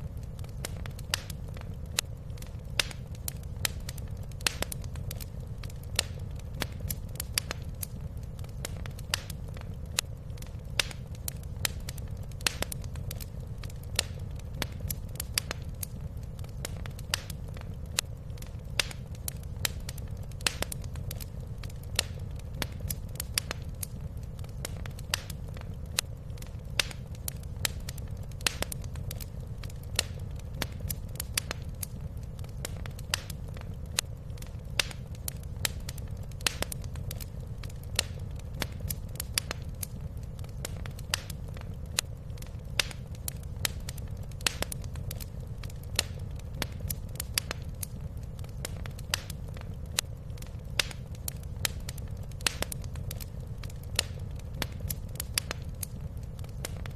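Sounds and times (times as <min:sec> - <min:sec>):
low rumble of burning fire: 0:00.0 - 0:56.9
wood fire crackling: 0:00.0 - 0:56.9.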